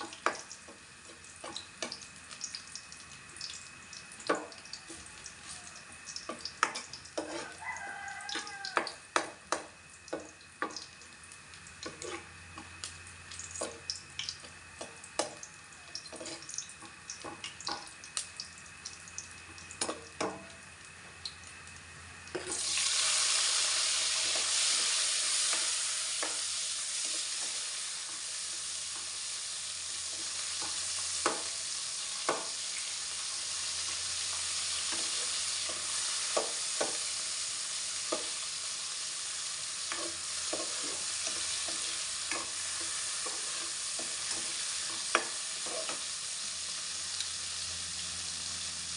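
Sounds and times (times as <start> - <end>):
food sizzling in hot oil: 0.0 - 48.9.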